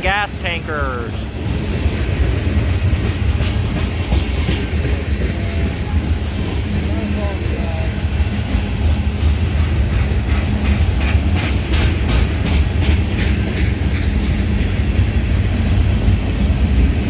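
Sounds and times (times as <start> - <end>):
freight train rumbling past: 0.0 - 17.0
wheels clacking over rail joints: 1.1 - 17.0.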